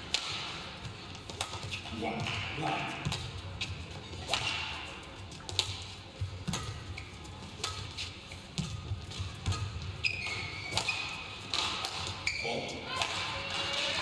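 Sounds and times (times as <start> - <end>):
rackets striking shuttlecock: 0.0 - 14.0.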